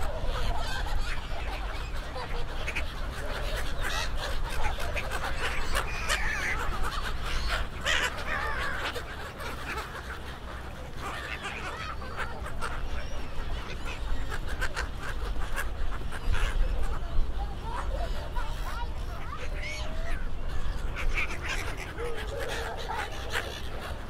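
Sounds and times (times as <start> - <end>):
gulls calling: 0.0 - 24.0.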